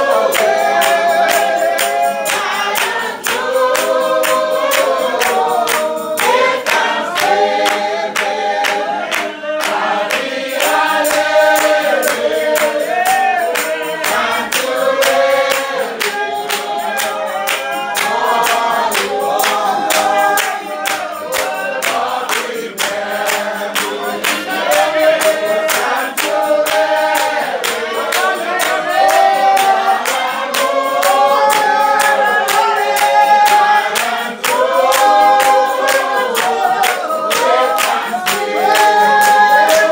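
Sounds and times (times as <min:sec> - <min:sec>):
congregation singing a hymn: 0:00.0 - 0:39.9
hand-clapping in time: 0:00.0 - 0:39.9.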